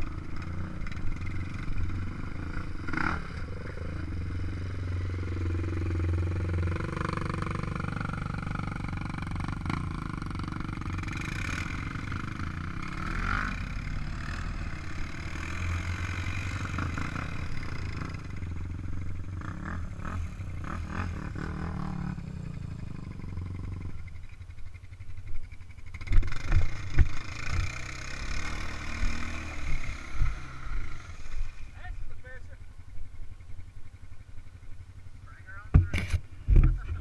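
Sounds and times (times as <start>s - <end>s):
atv engines running: 0.0s - 37.0s.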